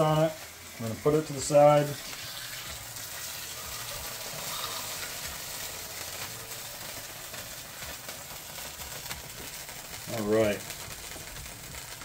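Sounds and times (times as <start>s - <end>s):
oil sizzling in a skillet: 0.0s - 12.0s.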